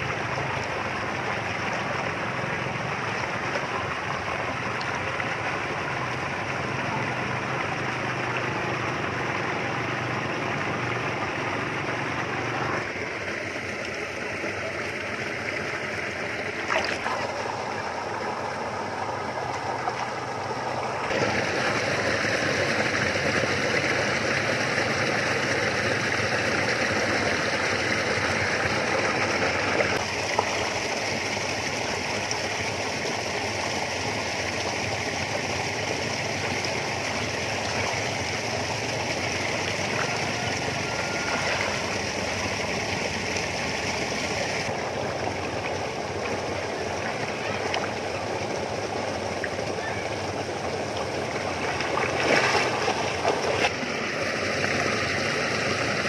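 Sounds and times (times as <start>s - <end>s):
fish splashing in shallow water: 0.0s - 33.5s, 34.5s - 56.0s.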